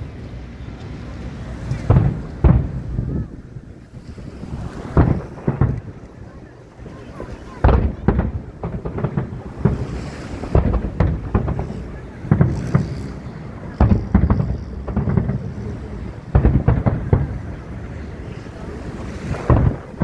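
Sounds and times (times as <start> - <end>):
fireworks deep booms: 1.7 - 20.0.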